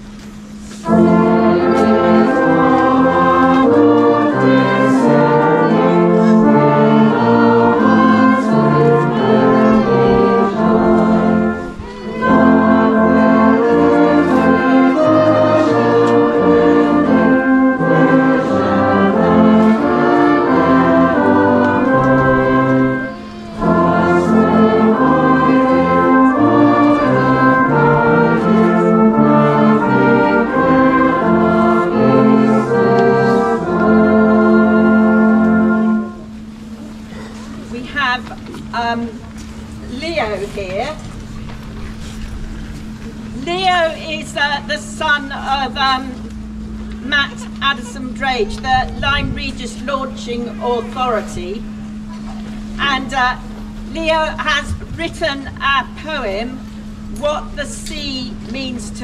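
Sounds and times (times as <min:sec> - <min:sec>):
brass band playing hymn: 0:00.0 - 0:55.3.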